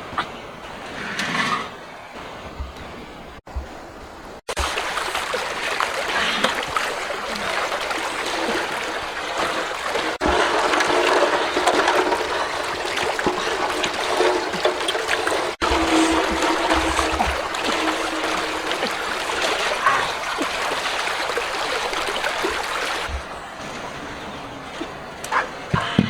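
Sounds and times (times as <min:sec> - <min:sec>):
water splashing and trickling: 0:02.2 - 0:25.9.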